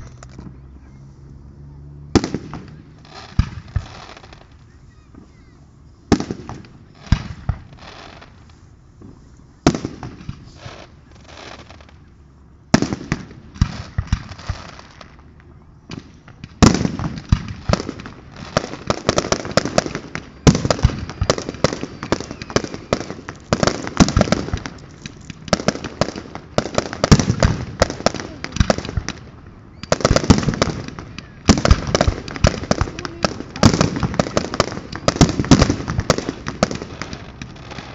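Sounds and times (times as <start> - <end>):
fireworks bangs and crackling: 2.1 - 12.0, 12.7 - 37.9.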